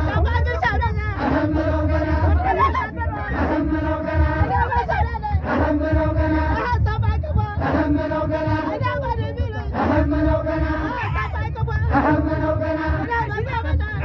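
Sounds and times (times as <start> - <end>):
men chanting a song in unison: 0.0 - 14.0.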